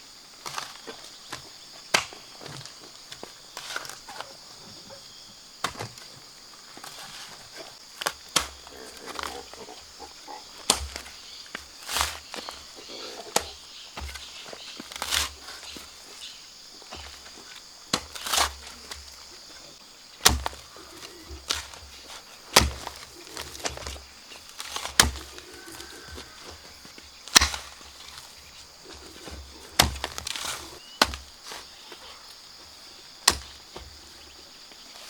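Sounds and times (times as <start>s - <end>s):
hand tool chopping: 0.4s - 4.3s, 5.6s - 9.5s, 10.6s - 16.2s, 16.9s - 19.3s, 20.2s - 32.2s, 33.2s - 34.1s.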